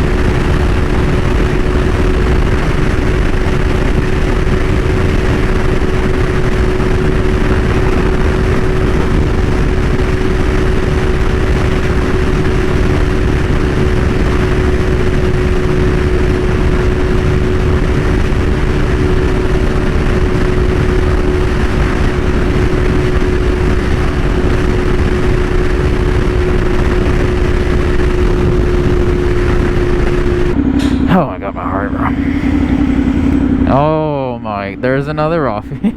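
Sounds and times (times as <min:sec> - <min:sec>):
wind rushing: 0:00.0 - 0:35.6
motorcycle engine running steadily: 0:00.0 - 0:35.9.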